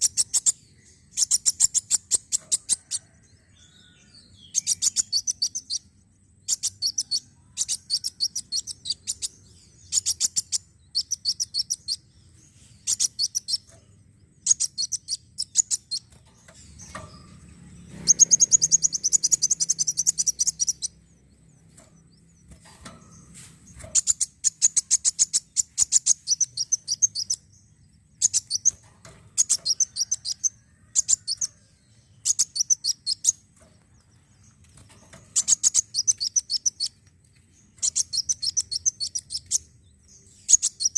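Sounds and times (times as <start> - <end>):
high-pitched bird chirps: 0.0 - 3.0, 3.7 - 12.1, 12.7 - 13.8, 14.4 - 21.0, 21.6 - 27.5, 28.2 - 33.5, 35.2 - 40.9.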